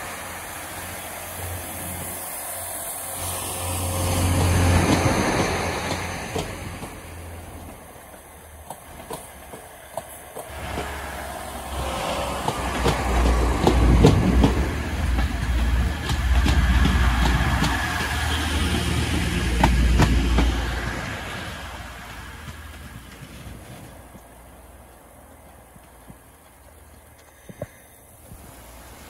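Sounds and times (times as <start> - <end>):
train rumbling past: 0.0 - 29.0
wheels clicking over rail joints: 0.0 - 29.0.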